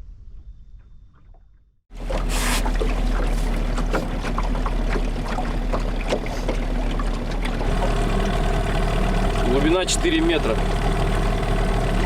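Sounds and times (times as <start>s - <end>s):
boat engine rumble: 1.9s - 12.0s
water splashing along hull: 1.9s - 12.0s.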